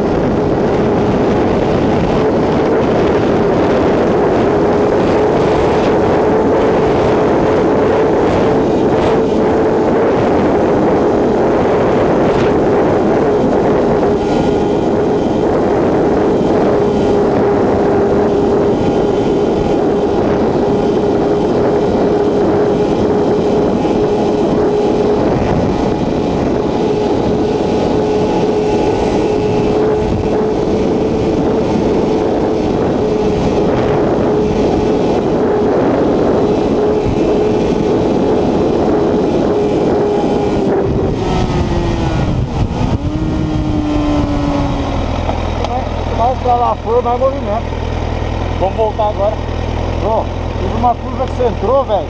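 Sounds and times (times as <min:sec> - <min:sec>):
heavy wind rush: 0:00.0 - 0:52.0
motorcycle engine high-revving: 0:00.0 - 0:52.0.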